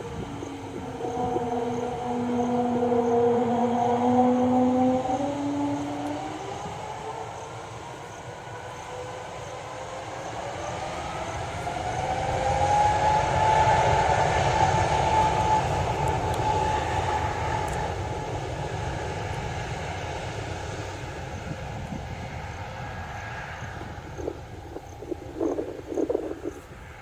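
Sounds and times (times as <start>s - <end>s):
jet engines droning and whining: 0.0s - 27.0s.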